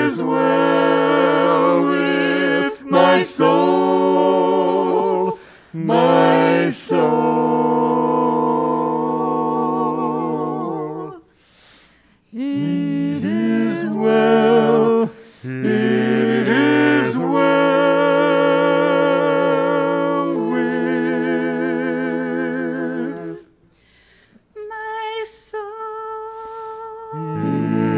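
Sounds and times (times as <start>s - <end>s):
vocal ensemble singing a cappella: 0.0s - 23.8s, 24.4s - 27.9s.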